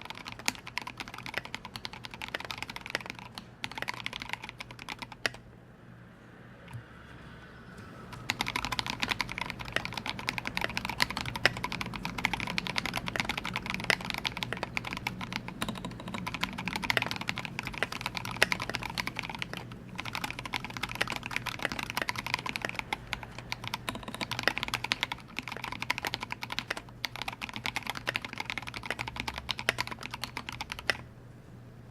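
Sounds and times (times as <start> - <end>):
fast typing on mechanical keyboard: 0.0 - 5.4, 8.2 - 31.1.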